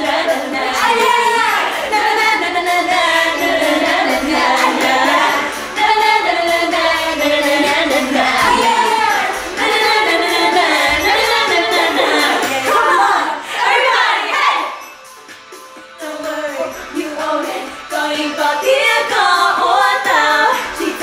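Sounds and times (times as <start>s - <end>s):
women singing together: 0.0s - 14.9s, 16.0s - 21.0s.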